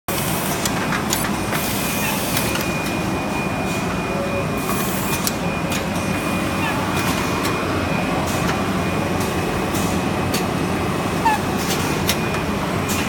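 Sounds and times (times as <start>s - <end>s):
machine humming with high whine: 0.1s - 13.0s.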